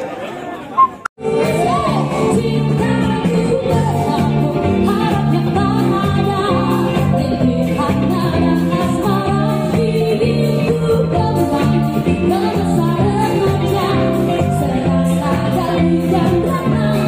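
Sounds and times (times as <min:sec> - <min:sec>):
live pop band playing: 0:00.8 - 0:17.0
electric bass line: 0:01.2 - 0:17.0
person singing: 0:01.2 - 0:17.0.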